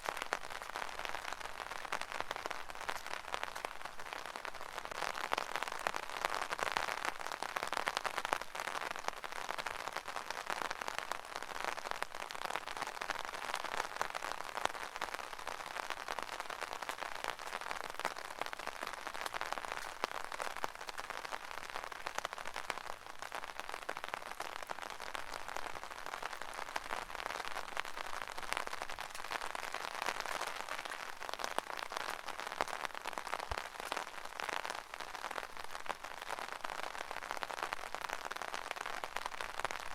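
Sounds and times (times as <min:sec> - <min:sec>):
rain pattering on umbrella: 0:00.0 - 0:39.9.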